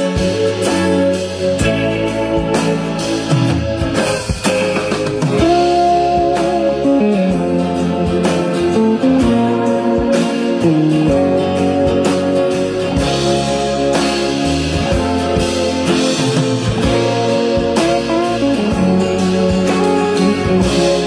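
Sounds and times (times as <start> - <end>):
guitar music with bass: 0.0 - 21.0.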